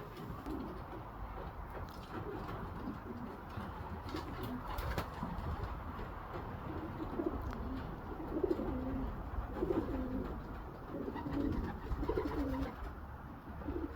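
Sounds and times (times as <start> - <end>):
pigeons cooing: 0.0 - 13.9.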